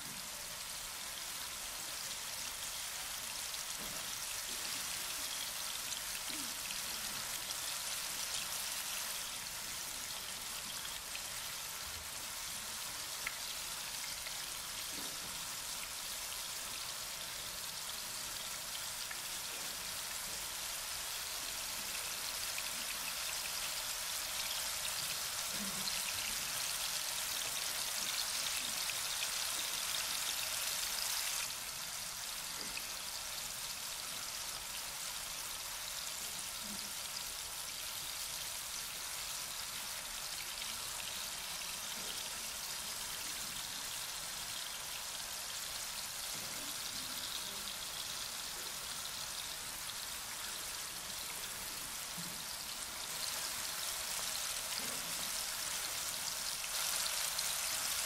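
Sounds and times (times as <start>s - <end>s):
food sizzling in frying pans: 0.0s - 58.0s.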